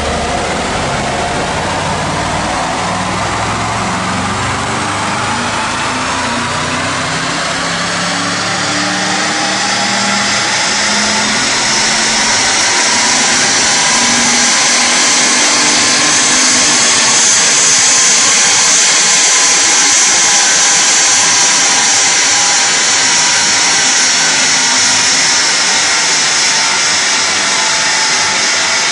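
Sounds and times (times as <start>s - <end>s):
car engine running hard on dynamometer: 0.0s - 28.9s.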